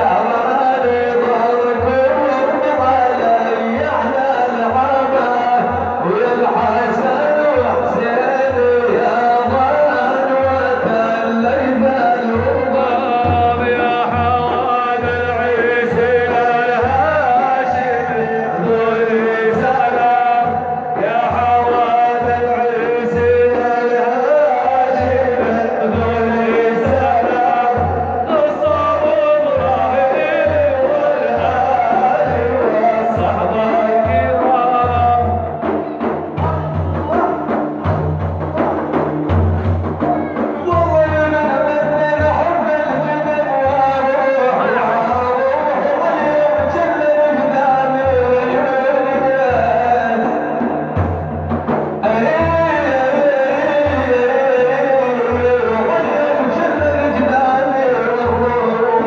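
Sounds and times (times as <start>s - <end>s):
man singing devotional chant: 0.0s - 38.4s, 40.1s - 51.2s, 52.0s - 59.0s
steady low drum beat: 0.0s - 58.9s.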